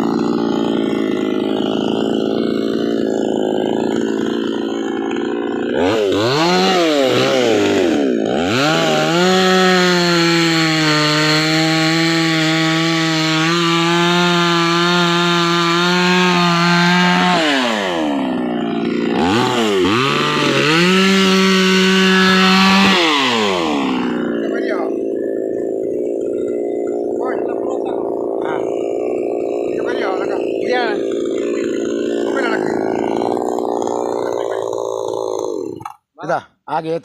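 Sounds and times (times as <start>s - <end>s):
chainsaw revving: 0.0s - 36.1s.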